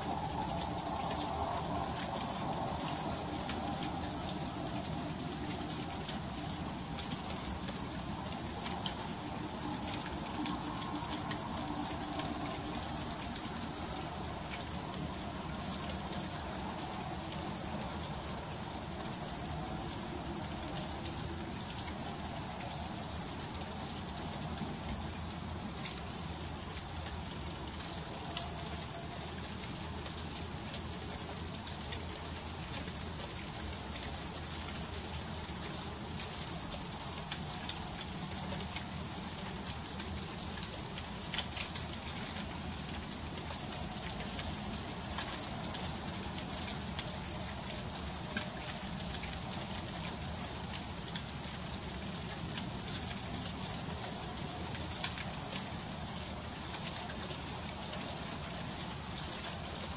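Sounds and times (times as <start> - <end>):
freezing rain hissing and ticking: 0.0 - 59.9.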